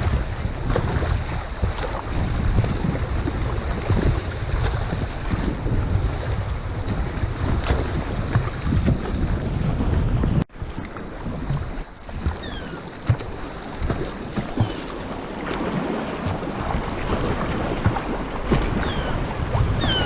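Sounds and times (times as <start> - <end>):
water sloshing around a kayak: 0.0 - 20.0
wind buffeting microphone: 0.0 - 20.0.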